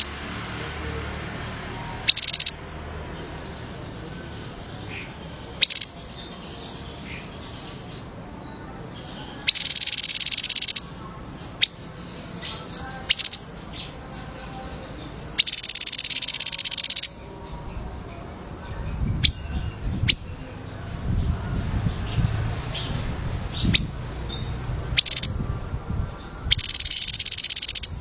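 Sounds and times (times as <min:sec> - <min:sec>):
songbird rattling trills: 0:00.0 - 0:08.1, 0:09.4 - 0:17.2, 0:19.1 - 0:25.6, 0:26.4 - 0:28.0
sharp bird chirps: 0:00.0 - 0:17.2, 0:18.9 - 0:28.0
faint high chirping: 0:00.0 - 0:28.0.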